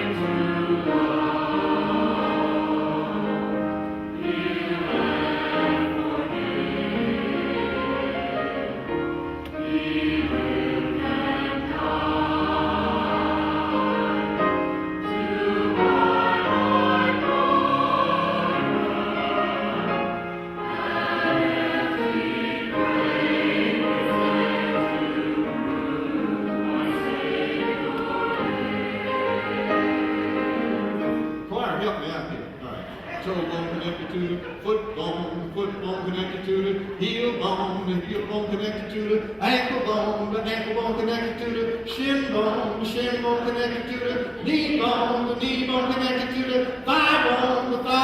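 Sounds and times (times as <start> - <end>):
church choir singing: 0.0 - 31.4, 33.0 - 48.0
musical accompaniment: 0.0 - 48.0.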